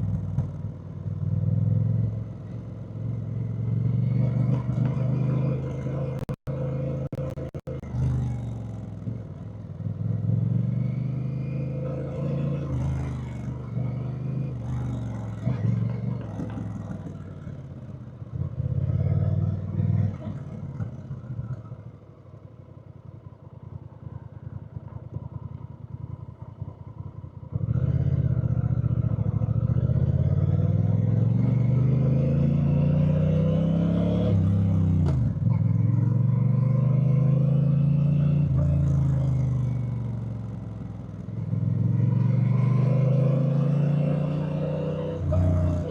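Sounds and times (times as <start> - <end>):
motorcycle engine revving: 0.0 - 22.0, 24.2 - 45.9.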